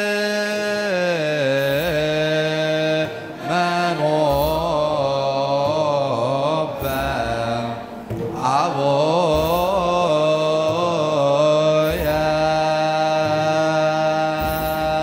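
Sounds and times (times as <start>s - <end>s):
choir chanting: 0.0s - 15.0s.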